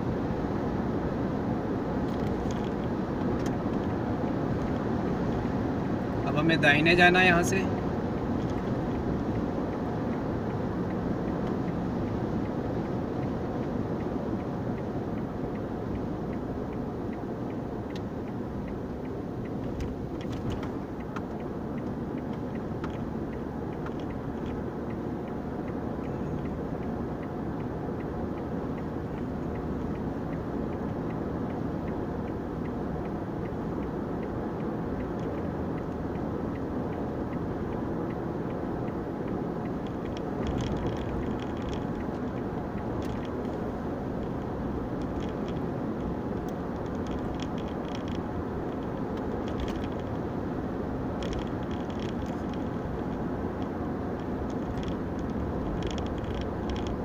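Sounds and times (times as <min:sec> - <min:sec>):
car engine and tyre road noise: 0:00.0 - 0:57.0.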